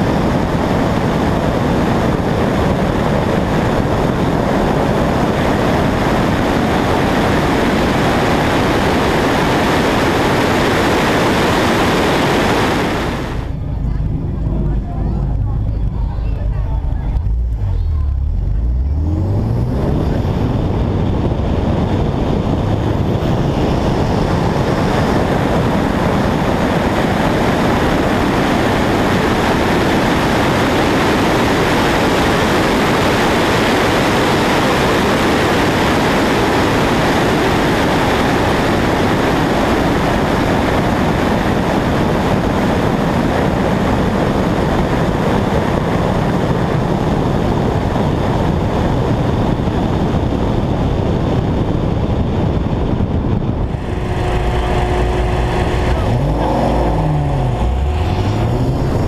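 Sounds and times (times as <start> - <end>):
car engine accelerating: 0.0 - 46.6, 51.5 - 59.0
wind rushing over camera: 0.0 - 59.0.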